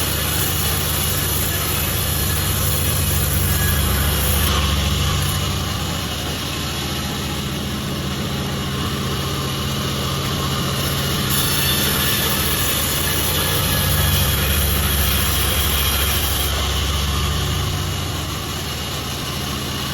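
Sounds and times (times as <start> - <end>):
sawmill machine sawing wood: 0.0 - 19.9.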